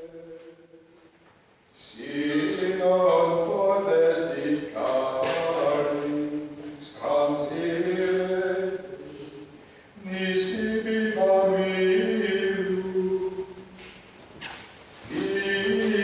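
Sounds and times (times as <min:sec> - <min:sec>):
unaccompanied liturgical chant: 0:00.0 - 0:01.1, 0:01.8 - 0:13.9, 0:15.0 - 0:16.0.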